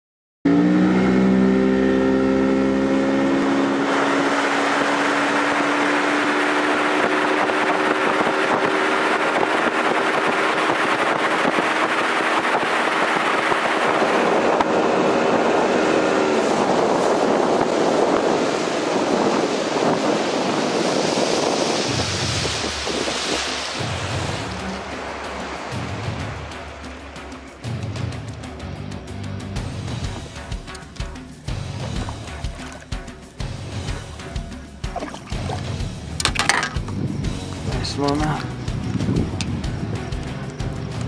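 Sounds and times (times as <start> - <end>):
outboard motor running: 0.5 - 41.0
water and wind rushing: 0.5 - 41.0.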